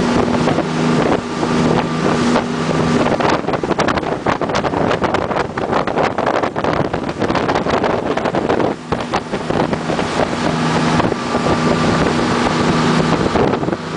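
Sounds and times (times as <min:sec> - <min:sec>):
boat engine drone: 0:00.0 - 0:13.9
water rushing: 0:00.0 - 0:13.9
wind buffeting microphone: 0:00.0 - 0:13.9.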